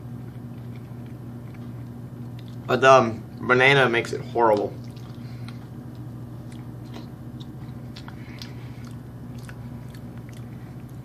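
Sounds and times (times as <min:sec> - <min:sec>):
soft chewing and mouth clicks: 0:00.0 - 0:02.7, 0:04.5 - 0:11.0
low electrical hum: 0:00.0 - 0:11.0.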